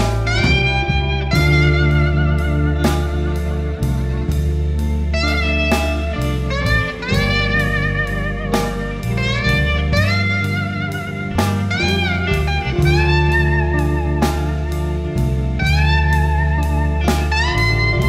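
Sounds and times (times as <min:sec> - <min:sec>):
bass line: 0:00.0 - 0:18.0
drum beats: 0:00.0 - 0:18.0
lead guitar bending notes: 0:00.0 - 0:18.0.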